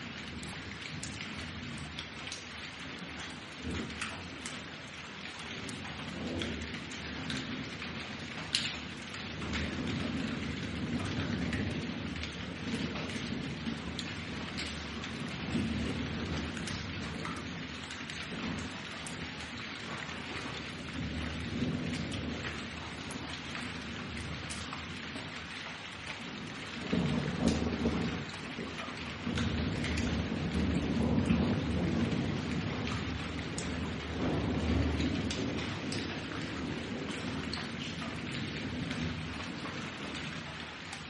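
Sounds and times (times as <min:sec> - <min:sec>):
steady rain falling: 0:00.0 - 0:41.0
low rolling thunder: 0:02.7 - 0:41.0.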